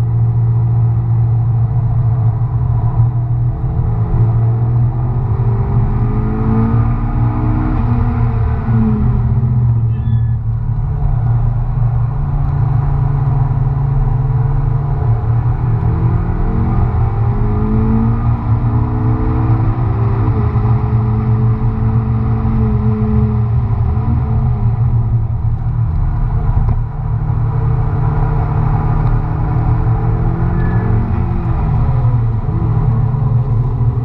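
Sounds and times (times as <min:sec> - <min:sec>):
car engine accelerating: 0:00.0 - 0:34.0
steady low rumble: 0:00.0 - 0:34.0.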